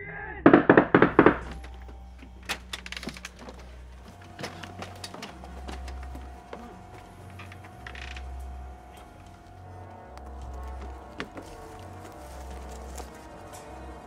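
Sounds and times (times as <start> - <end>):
steady held music tone: 0.0 - 14.0
wood cracking and creaking: 0.4 - 14.0.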